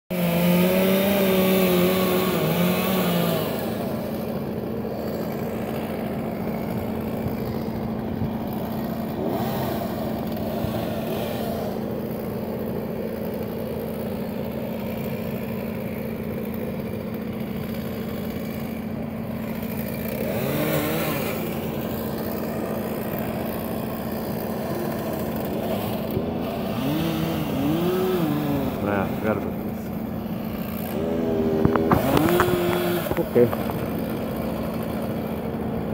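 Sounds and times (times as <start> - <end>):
engine running steadily: 0.1 - 35.9.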